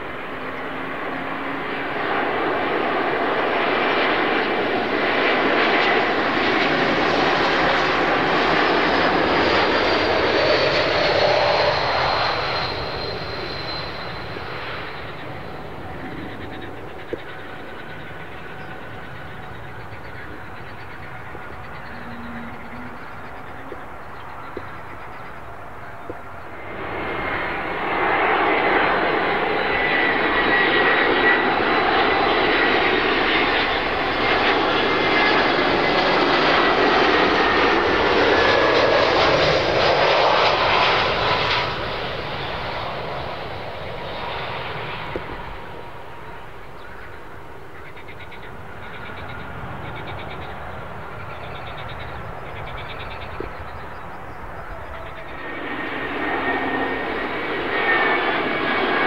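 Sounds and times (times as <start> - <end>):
airliner engines rushing past: 0.0 - 59.0
second aircraft engine noise: 0.0 - 59.0.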